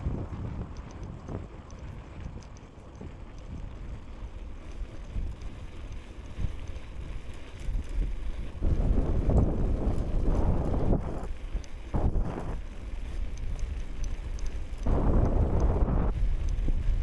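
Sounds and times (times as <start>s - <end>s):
low road rumble: 0.0s - 17.0s
wind buffeting the microphone: 0.0s - 17.0s.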